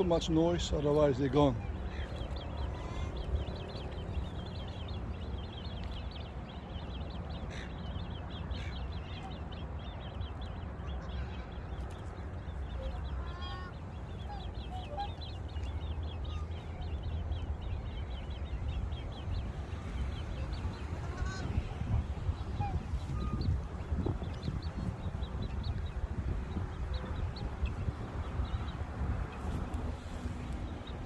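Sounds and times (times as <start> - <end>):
birds chirping: 0.0 - 31.0
high curved bird calls: 0.0 - 31.0
steady low rumble: 0.0 - 31.0.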